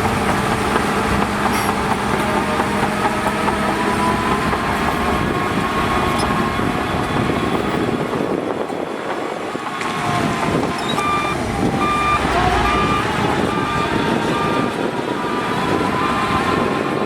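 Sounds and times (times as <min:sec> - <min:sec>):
diesel engine: 0:00.0 - 0:17.0
steel tracks clattering: 0:00.0 - 0:17.0.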